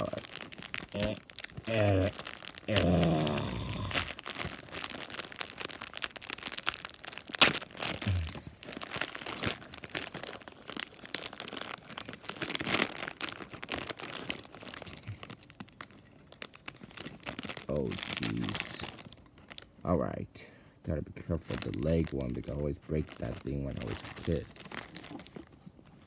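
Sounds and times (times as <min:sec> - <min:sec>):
plastic packaging crinkling: 0:00.0 - 0:19.9, 0:21.2 - 0:26.0.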